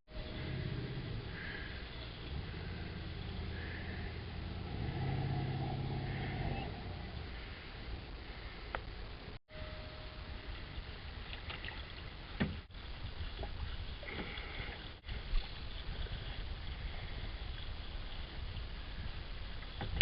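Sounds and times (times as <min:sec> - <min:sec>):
water noise: 0:00.1 - 0:20.0
wind: 0:00.1 - 0:20.0.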